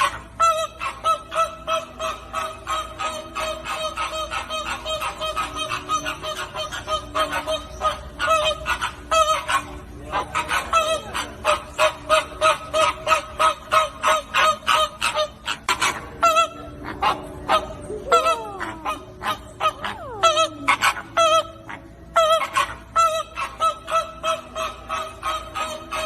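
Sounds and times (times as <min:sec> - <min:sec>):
flamingos honking: 0:00.0 - 0:26.0.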